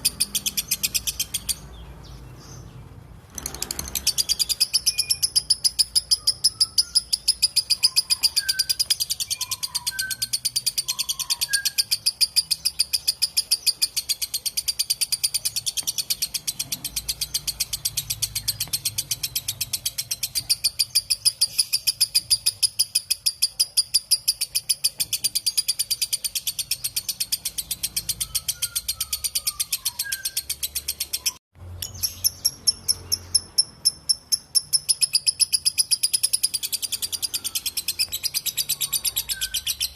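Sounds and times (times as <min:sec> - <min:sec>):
lovebird shrill chatter: 0:03.4 - 0:39.9.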